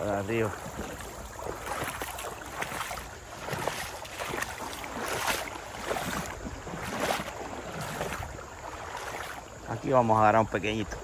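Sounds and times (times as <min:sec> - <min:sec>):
creek water sloshing and splashing: 0:00.0 - 0:11.0.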